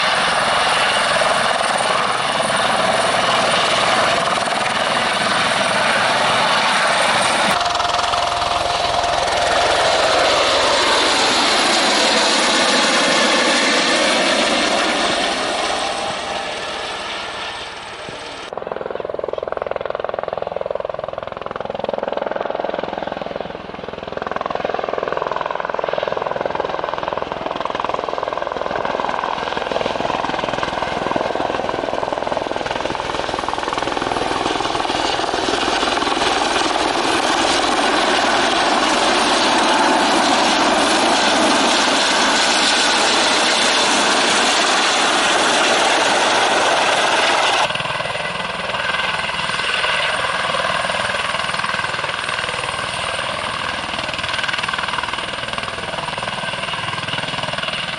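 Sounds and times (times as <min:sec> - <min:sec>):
helicopter rotor chop and turbine: 0:00.0 - 0:57.9.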